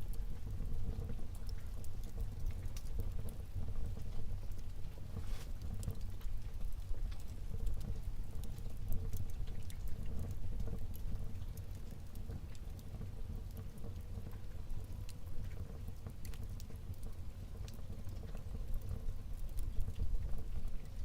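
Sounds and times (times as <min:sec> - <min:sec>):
fire flames rumbling: 0:00.0 - 0:21.0
logs crackling and popping: 0:00.0 - 0:21.0.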